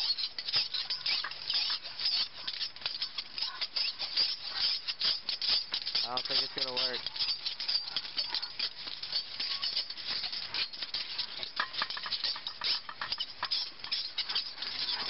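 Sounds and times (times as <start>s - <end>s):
metal bar scraping on rails: 0.0s - 15.0s.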